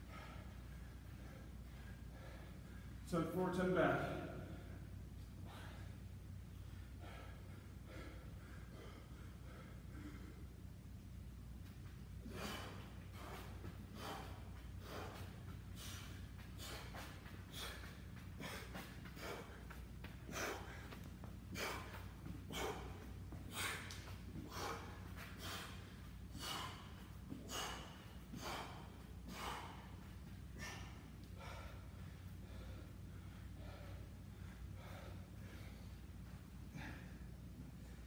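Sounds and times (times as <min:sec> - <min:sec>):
man breathing hard: 0:00.0 - 0:03.1, 0:04.2 - 0:38.0
steady low hum: 0:00.0 - 0:38.0.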